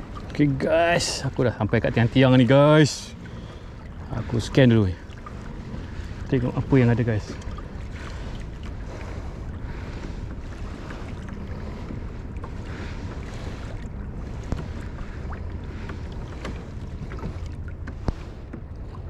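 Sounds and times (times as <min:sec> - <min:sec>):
water washing against kayak hull: 0:00.0 - 0:19.0
wind rumbling on microphone: 0:00.0 - 0:19.0.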